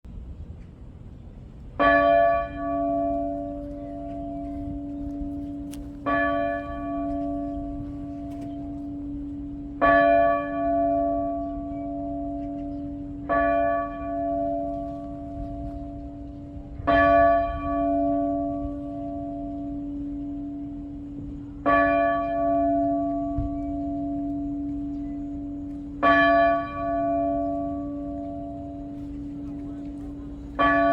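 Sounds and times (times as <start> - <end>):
church bell tolling: 1.8 - 30.9.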